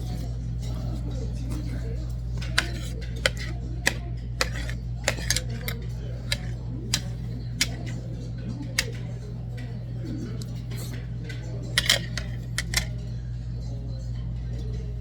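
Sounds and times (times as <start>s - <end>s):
steady low hum: 0.0s - 15.0s
utensils clicking against dishes: 0.0s - 15.0s.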